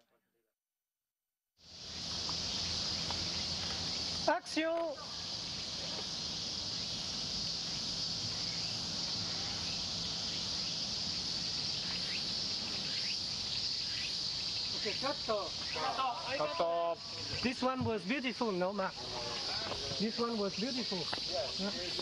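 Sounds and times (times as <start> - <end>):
high-pitched insect drone: 1.6 - 22.0.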